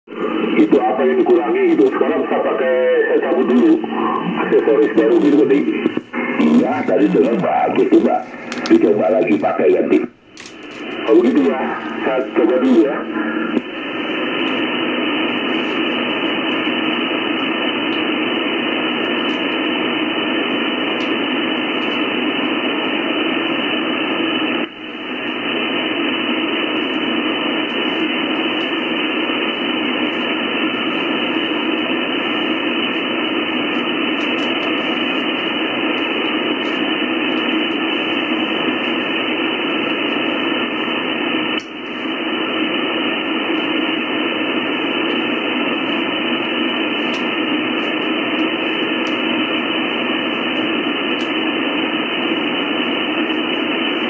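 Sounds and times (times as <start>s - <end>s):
radio static hiss: 0.1s - 54.0s.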